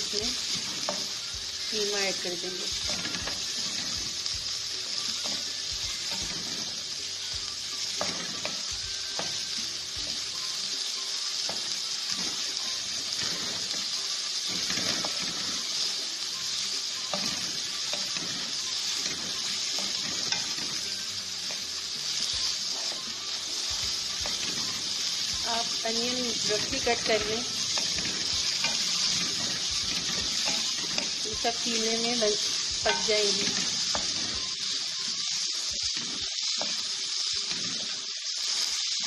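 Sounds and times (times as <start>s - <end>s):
onions sizzling in oil: 0.0s - 39.0s.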